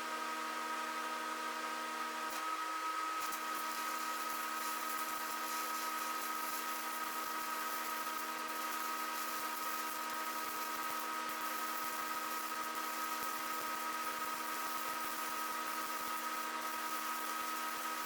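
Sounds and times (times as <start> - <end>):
welding machine hum: 2.1 - 18.0
welding arc crackling: 3.2 - 18.0.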